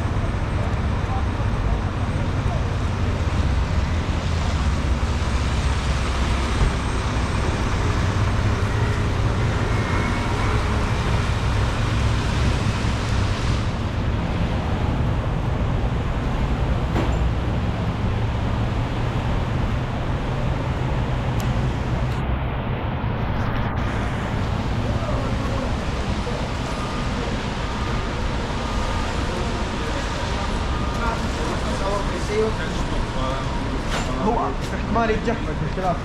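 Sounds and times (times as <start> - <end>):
traffic on wet streets: 0.0 - 36.0.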